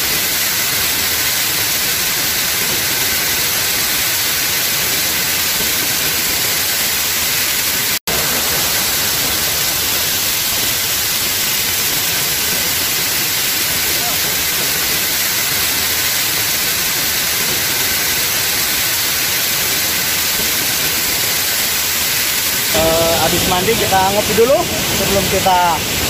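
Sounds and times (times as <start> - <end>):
stream rushing over rock: 0.0 - 26.0.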